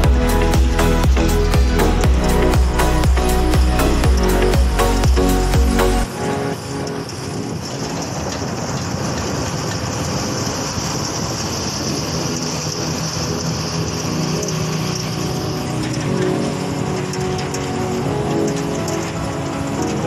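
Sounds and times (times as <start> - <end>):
background music: 0.0 - 8.5, 11.9 - 20.0
vehicle engine running: 0.0 - 20.0
wind and road noise: 0.0 - 20.0.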